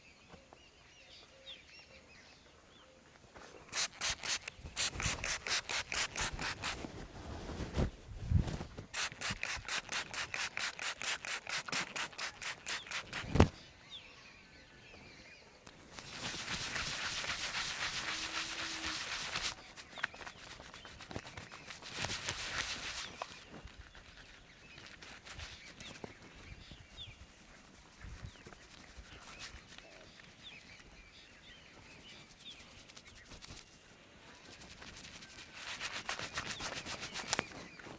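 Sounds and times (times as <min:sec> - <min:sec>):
hands rubbing hair and skin: 0:03.4 - 0:13.6, 0:15.7 - 0:30.8, 0:31.8 - 0:37.9.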